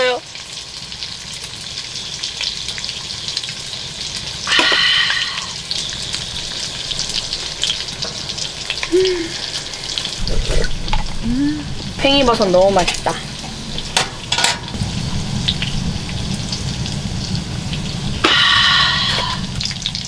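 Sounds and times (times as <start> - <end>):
food sizzling in a skillet: 0.0 - 20.0.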